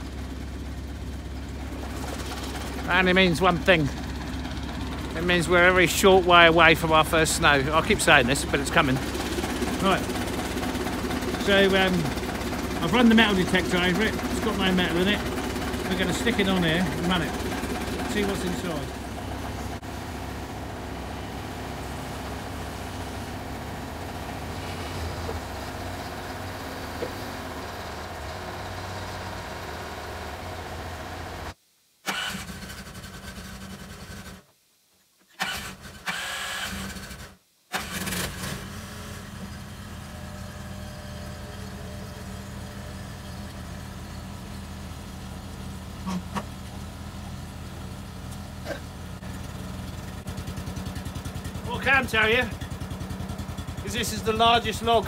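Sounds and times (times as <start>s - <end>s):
loader engine running: 0.0s - 34.4s, 37.8s - 55.0s.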